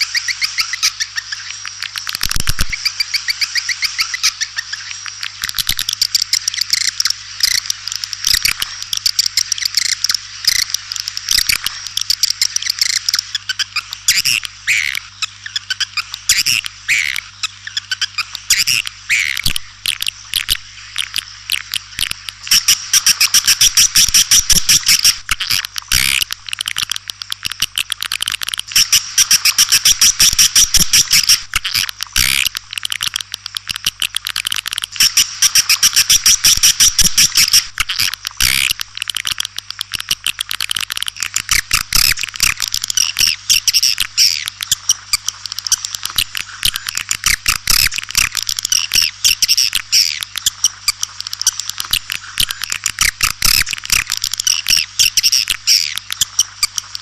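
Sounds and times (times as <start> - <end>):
swiftlets twittering chirps: 0.0 - 57.0.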